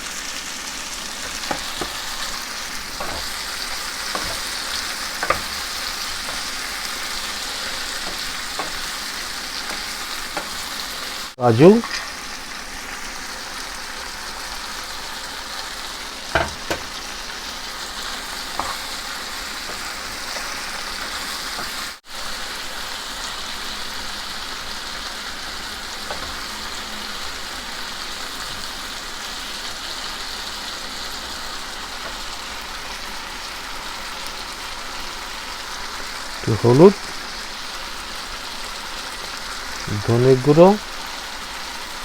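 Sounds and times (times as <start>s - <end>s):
food sizzling in oil: 0.0s - 42.0s.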